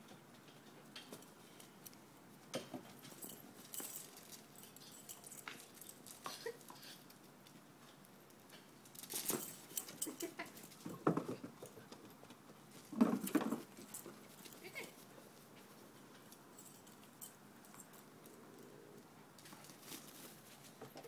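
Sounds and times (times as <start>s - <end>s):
dogs playing and barking: 3.0s - 8.1s, 9.0s - 20.9s.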